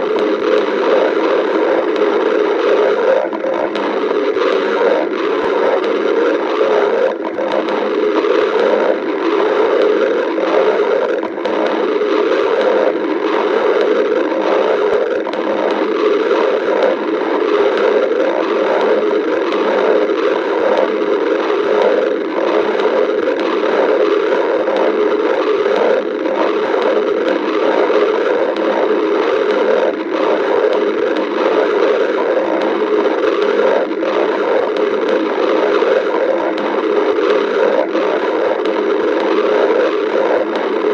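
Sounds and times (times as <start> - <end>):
stomach growling: 0.0 - 40.9.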